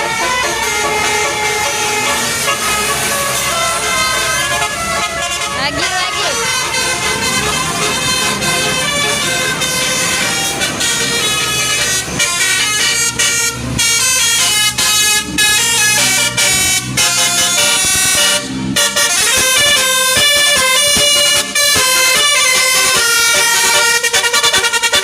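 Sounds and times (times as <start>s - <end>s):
multi-tone bus air horns: 0.0s - 25.0s.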